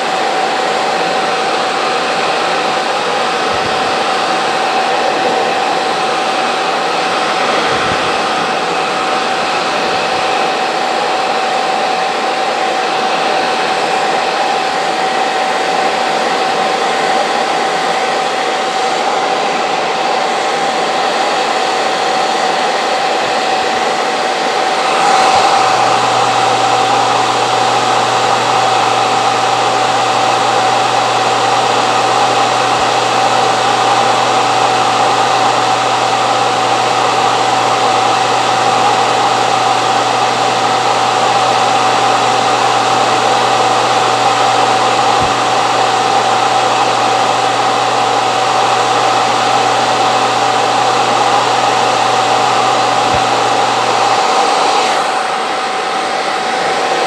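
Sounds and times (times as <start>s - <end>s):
hair dryer blowing with whine: 0.0s - 57.0s.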